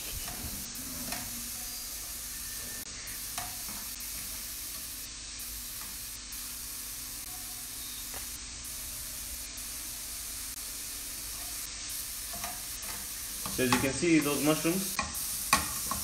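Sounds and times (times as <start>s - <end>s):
mushrooms sizzling in a frying pan: 0.0s - 16.0s.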